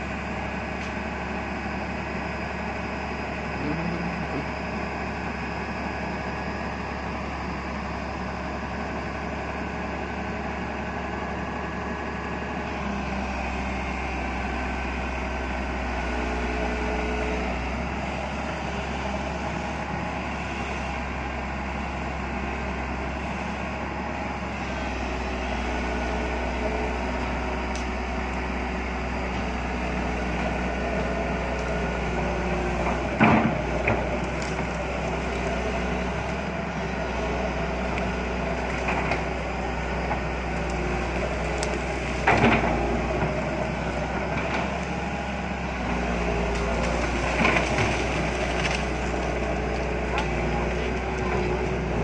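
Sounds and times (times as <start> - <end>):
excavator diesel engine humming: 0.0 - 52.0.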